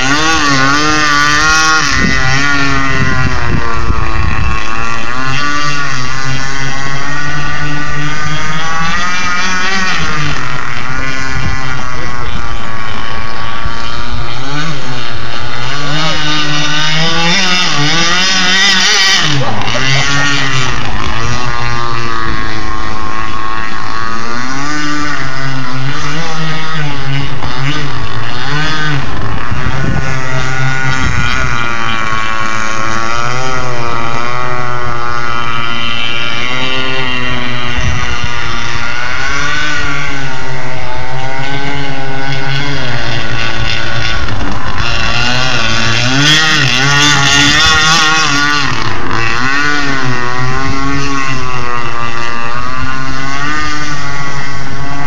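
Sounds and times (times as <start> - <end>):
model boat motor running: 0.0 - 55.0.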